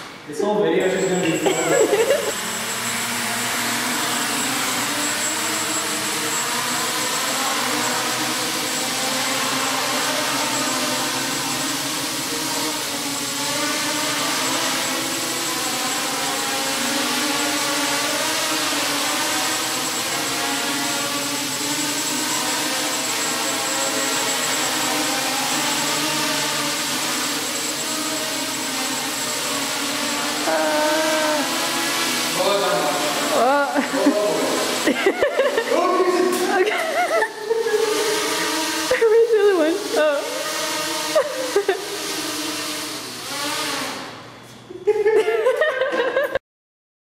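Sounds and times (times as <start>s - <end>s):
quadrotor propellers buzzing: 0.0s - 44.7s.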